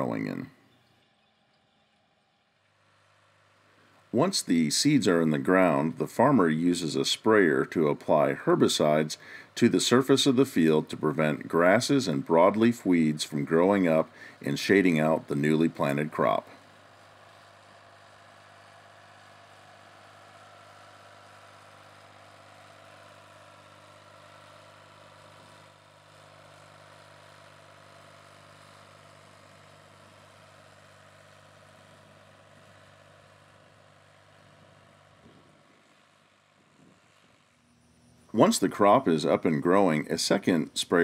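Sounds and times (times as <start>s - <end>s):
faint tractor engine running: 0.0s - 41.0s.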